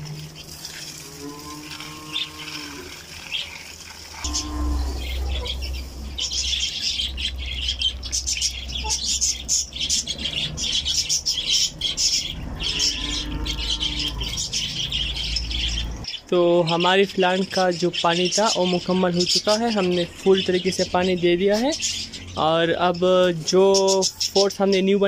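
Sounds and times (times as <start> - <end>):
budgerigars chattering and squawking: 4.2 - 25.0.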